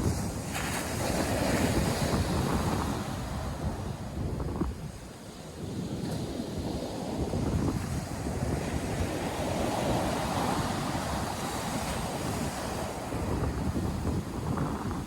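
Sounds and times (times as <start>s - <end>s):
surf breaking and washing ashore: 0.0s - 15.0s
wind buffeting microphone: 0.0s - 15.0s.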